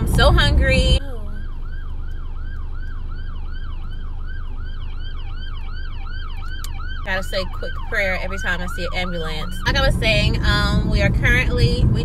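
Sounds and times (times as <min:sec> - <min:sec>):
low rumble of car: 0:00.0 - 0:12.0
siren yelping: 0:00.0 - 0:12.0.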